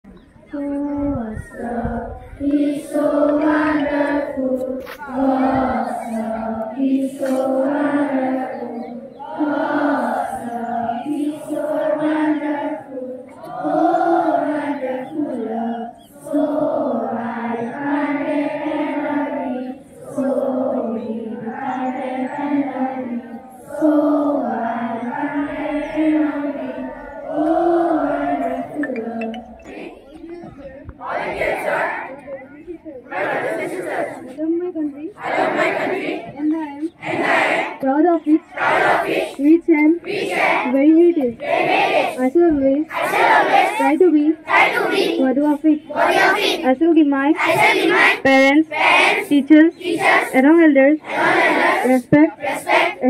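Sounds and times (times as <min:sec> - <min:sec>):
children chanting a prayer: 0:00.0 - 0:53.0.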